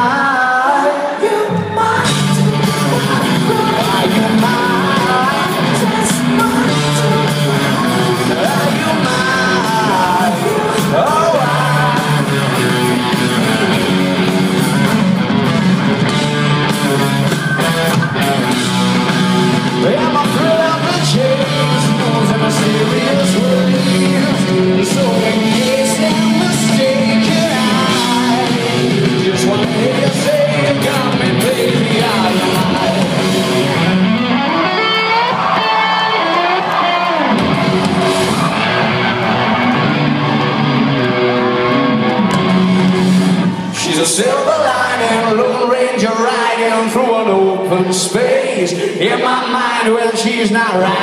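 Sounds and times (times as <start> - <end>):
person singing: 0.0 - 15.0, 18.2 - 39.9, 43.7 - 51.0
electric guitars: 0.0 - 49.2
live rock band playing: 1.1 - 48.4.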